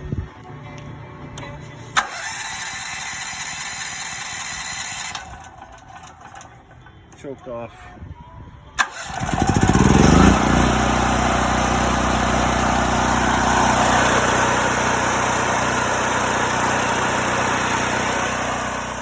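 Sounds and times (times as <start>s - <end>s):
generator engine running: 0.3s - 7.8s, 8.8s - 19.0s.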